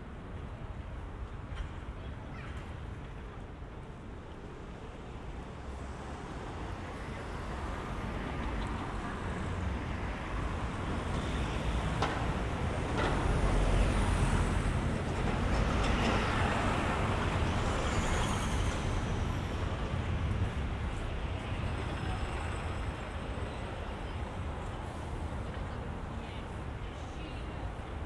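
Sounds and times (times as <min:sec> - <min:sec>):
road noise: 0:00.0 - 0:28.0.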